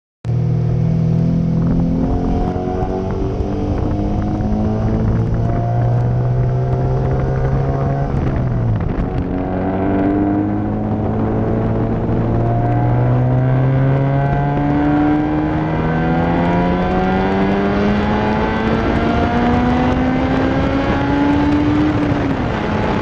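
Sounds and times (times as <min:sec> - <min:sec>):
car engine accelerating: 0:00.3 - 0:23.0
wind buffeting microphone: 0:01.2 - 0:23.0.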